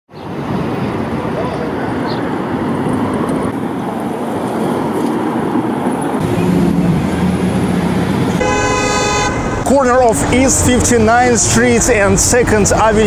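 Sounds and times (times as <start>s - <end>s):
city street traffic: 0.1s - 13.0s
vehicle engine rumble: 0.3s - 13.0s.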